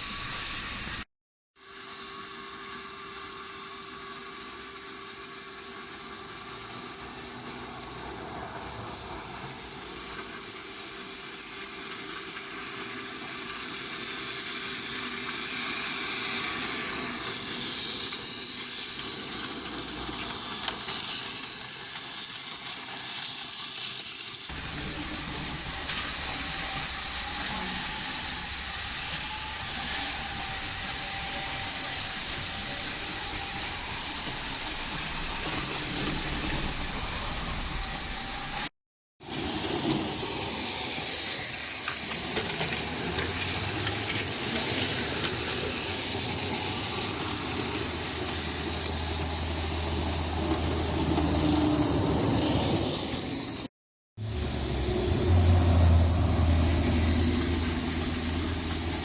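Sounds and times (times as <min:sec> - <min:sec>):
toy train motors whirring: 0:01.7 - 0:59.0.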